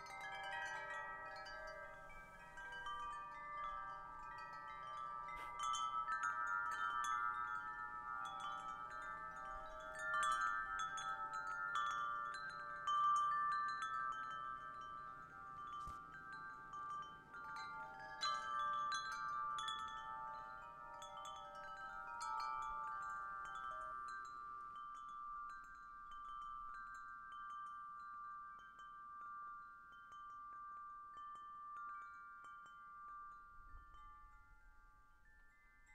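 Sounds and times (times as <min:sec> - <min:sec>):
metal tube wind chimes ringing: 0:00.0 - 0:35.9.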